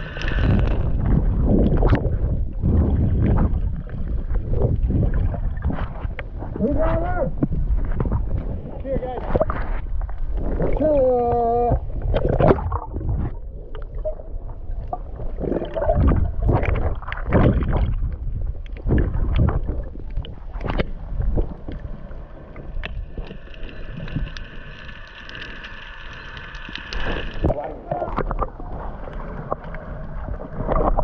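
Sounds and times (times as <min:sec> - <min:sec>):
water splashing and gurgling: 0:00.0 - 0:31.0.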